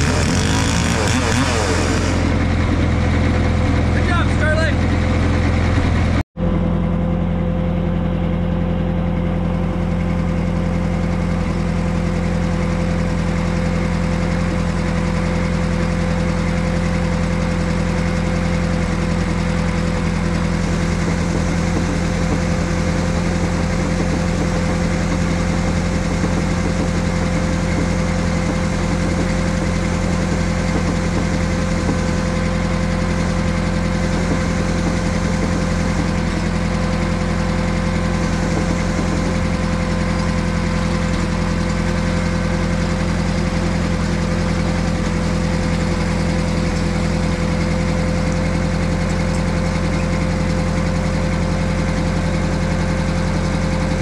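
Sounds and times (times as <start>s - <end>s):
sawmill engine idling: 0.0s - 54.0s.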